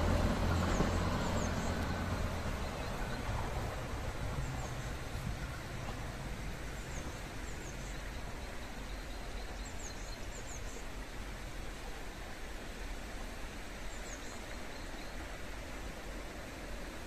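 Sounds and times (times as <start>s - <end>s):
low rumble with hiss: 0.0s - 17.0s.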